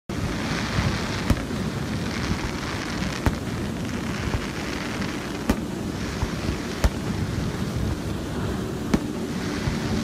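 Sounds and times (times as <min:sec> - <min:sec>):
fireworks bangs: 0:00.1 - 0:10.0
waterfall rushing: 0:00.1 - 0:10.0.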